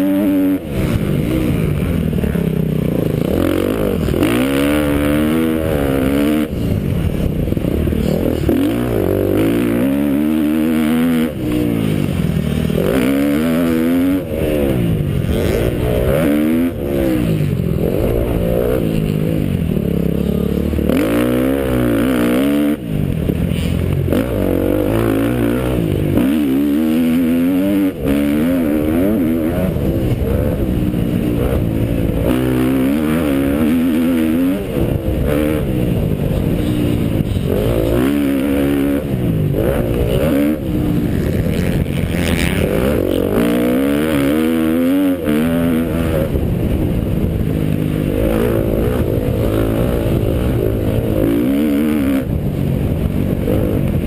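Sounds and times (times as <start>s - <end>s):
dirt bike engine revving: 0.0s - 54.0s
track noise: 0.0s - 54.0s
wind noise: 0.1s - 54.0s.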